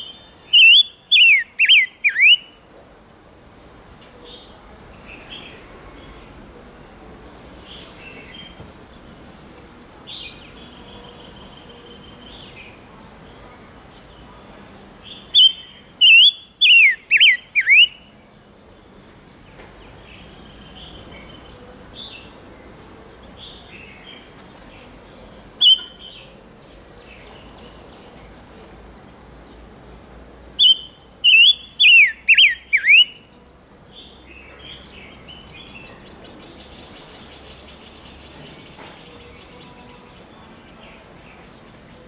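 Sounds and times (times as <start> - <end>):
songbird soft chirps: 0.0 - 3.2, 4.0 - 42.0.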